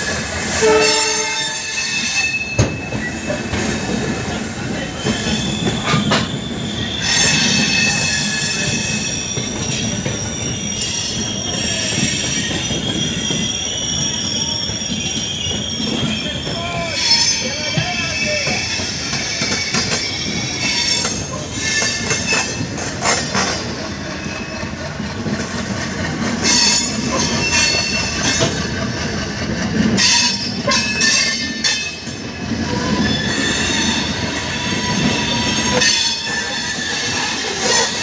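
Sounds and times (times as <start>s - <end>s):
train rumble: 0.0s - 38.0s
train wheels squealing: 0.0s - 38.0s
wheels clanking over rail joints: 0.3s - 38.0s.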